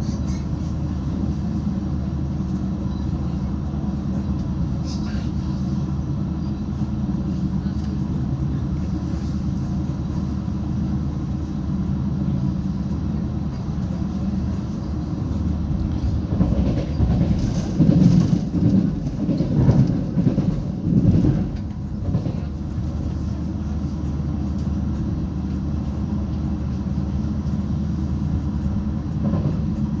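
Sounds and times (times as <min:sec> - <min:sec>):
diesel train engine hum: 0:00.0 - 0:30.0.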